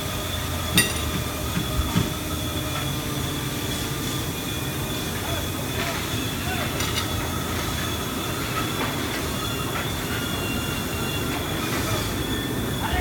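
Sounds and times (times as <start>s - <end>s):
factory machinery rumble: 0.0s - 13.0s
high squeal: 1.7s - 13.0s.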